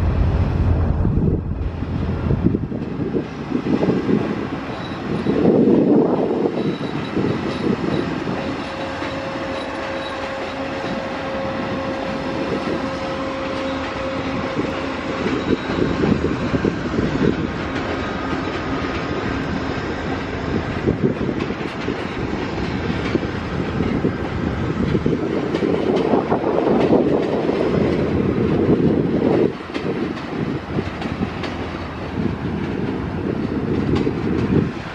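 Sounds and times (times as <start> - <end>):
train wheels on rails: 0.0 - 34.9.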